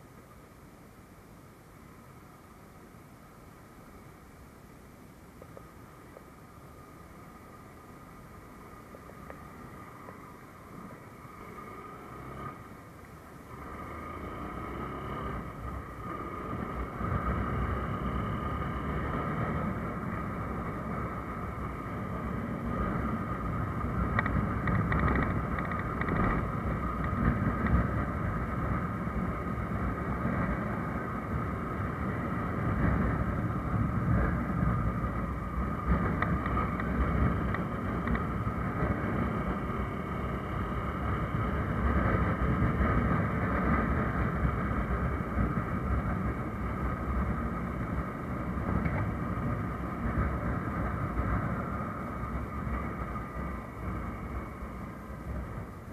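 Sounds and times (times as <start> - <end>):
wind and road noise: 0.0 - 55.9
motorcycle engine running: 9.0 - 55.9.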